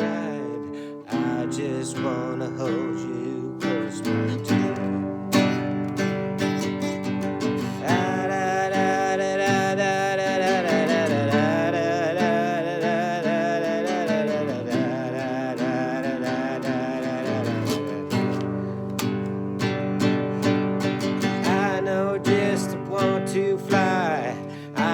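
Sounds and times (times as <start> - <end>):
strummed acoustic guitar: 0.0 - 24.9.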